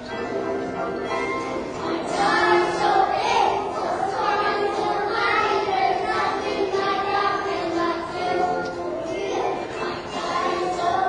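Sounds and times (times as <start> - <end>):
accompanying music: 0.0 - 11.0
children singing together: 1.1 - 11.0.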